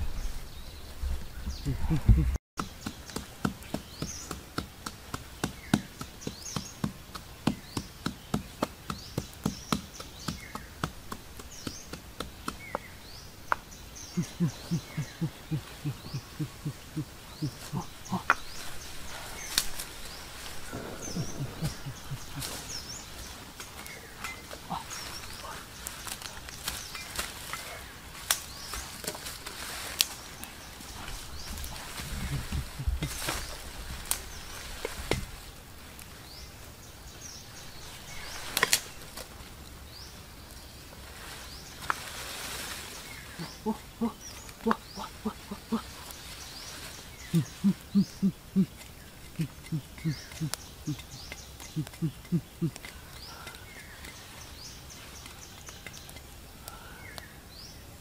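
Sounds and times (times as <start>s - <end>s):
leaves rustling: 0.0s - 58.0s
small birds chirping: 0.0s - 58.0s.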